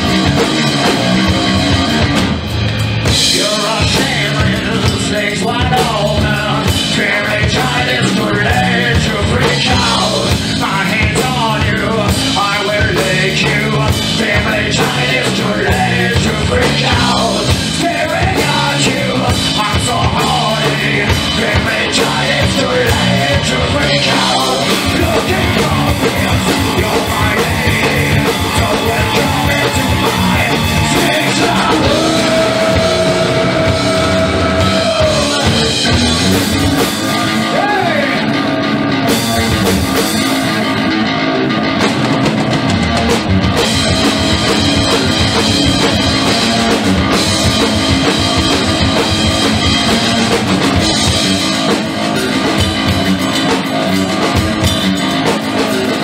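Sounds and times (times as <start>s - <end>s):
drum kit: 0.0s - 56.0s
electric bass: 0.0s - 56.0s
rock band playing live: 0.0s - 56.0s.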